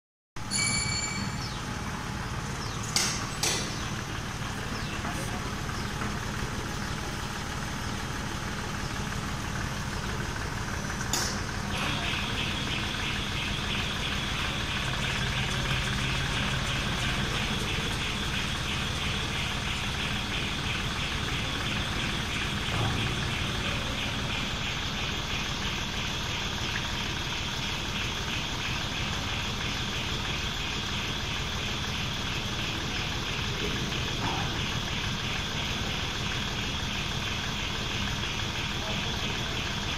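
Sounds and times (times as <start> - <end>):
crane mechanical hum: 0.4 - 39.9
pulsing motor whine: 3.6 - 39.9.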